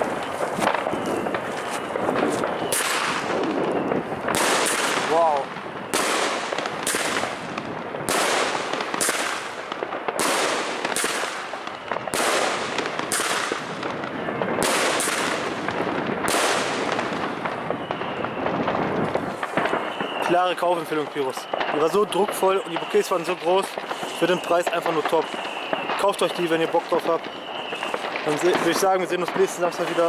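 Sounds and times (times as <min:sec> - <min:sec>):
firework bangs: 0:00.0 - 0:30.0
firework rushing noise: 0:00.0 - 0:30.0.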